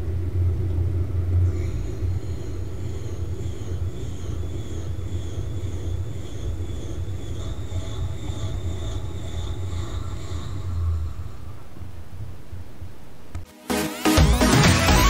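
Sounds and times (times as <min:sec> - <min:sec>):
faint high whine: 0:00.0 - 0:13.5.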